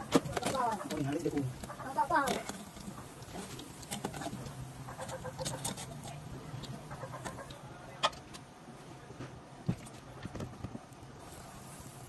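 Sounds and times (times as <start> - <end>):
oil sizzling: 0.0 - 8.4, 9.7 - 12.0.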